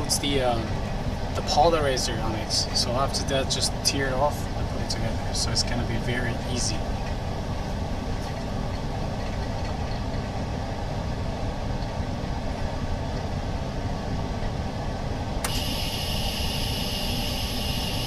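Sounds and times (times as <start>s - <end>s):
laminating machine humming: 0.0s - 18.0s.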